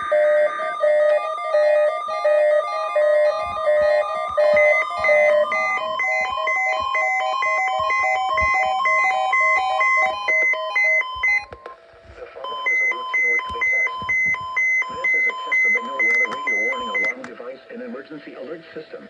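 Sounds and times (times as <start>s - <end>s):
electronic beeps: 0.0s - 11.8s, 12.4s - 17.2s.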